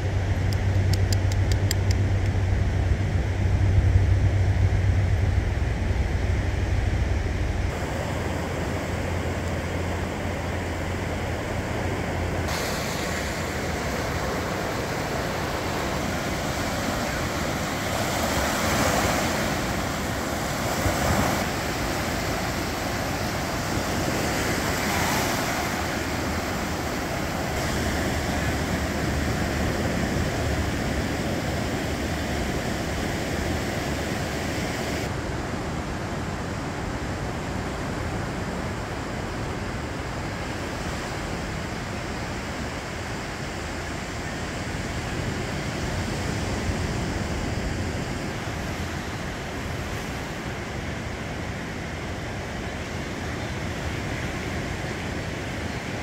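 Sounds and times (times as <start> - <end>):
wind rumbling on microphone: 0.0 - 56.0
small waves breaking on beach: 7.7 - 56.0.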